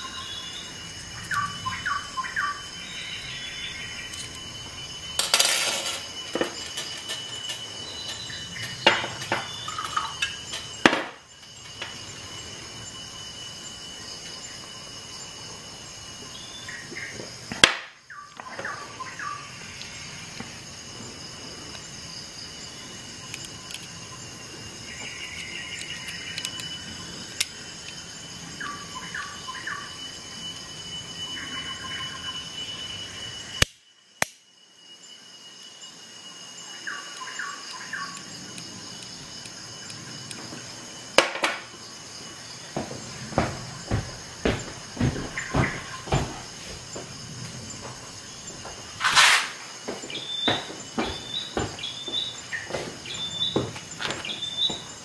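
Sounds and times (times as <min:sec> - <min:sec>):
steady high-pitched whine: 0:00.0 - 0:55.0.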